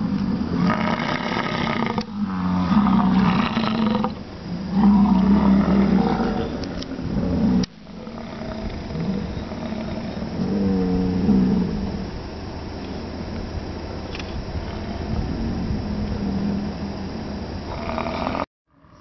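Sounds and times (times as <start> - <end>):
bison bellowing: 0.0 - 12.1, 14.6 - 19.0.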